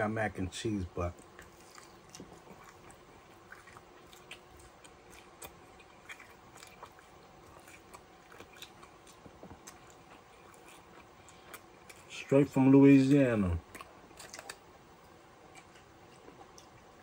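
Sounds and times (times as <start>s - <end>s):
man chewing food: 1.0s - 12.4s, 13.1s - 17.0s.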